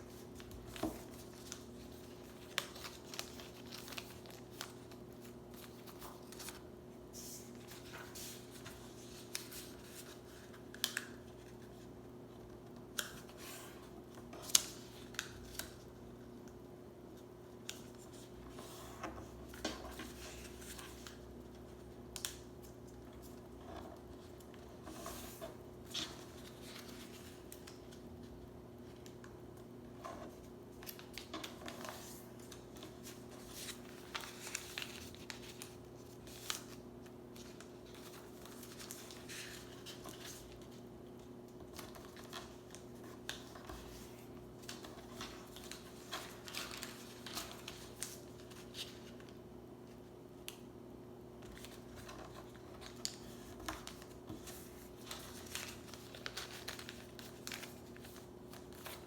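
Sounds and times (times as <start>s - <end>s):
paper rustling and crinkling: 0.0s - 11.9s, 17.5s - 49.4s, 51.4s - 59.0s.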